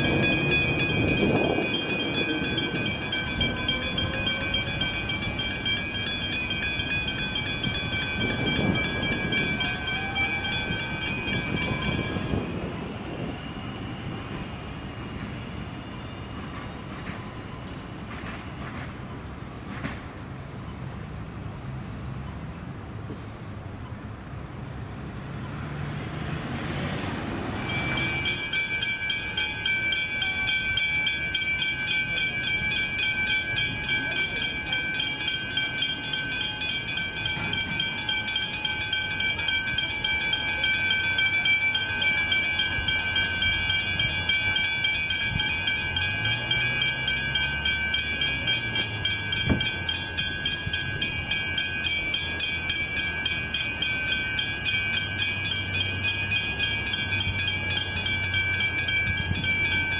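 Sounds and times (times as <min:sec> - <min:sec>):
level crossing warning bells: 0:00.0 - 0:59.9.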